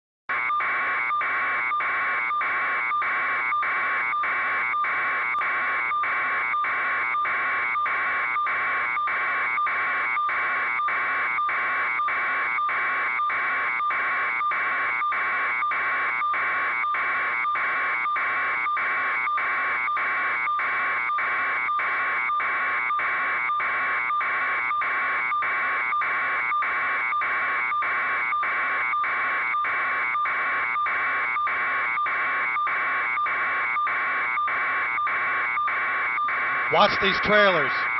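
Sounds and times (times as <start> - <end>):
electronic alarm buzzer pulsing: 0.3 - 37.9.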